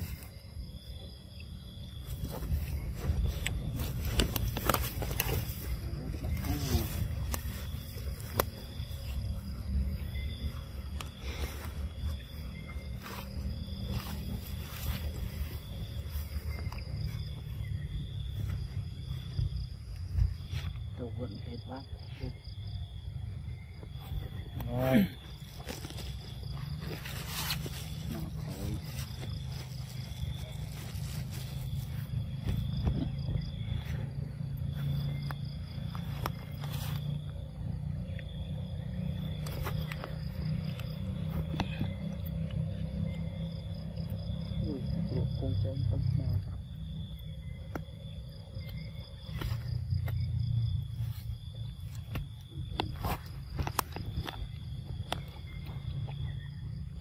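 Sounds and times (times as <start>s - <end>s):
steady low rumble: 0.0s - 24.6s, 25.2s - 57.0s
insects trilling: 0.0s - 57.0s.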